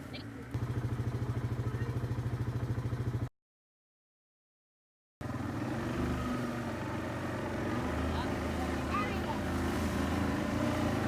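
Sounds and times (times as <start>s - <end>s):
atv engine running: 0.0s - 3.3s, 5.2s - 11.0s.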